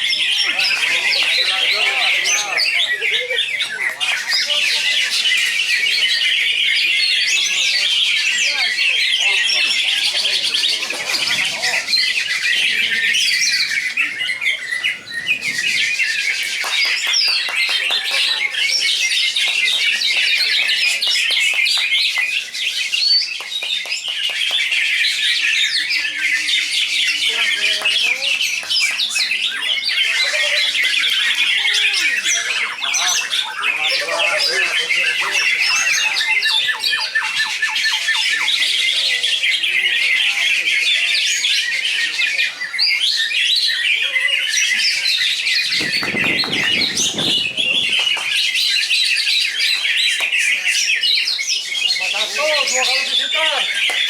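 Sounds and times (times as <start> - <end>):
birds chirping and whistling: 0.0 - 54.0.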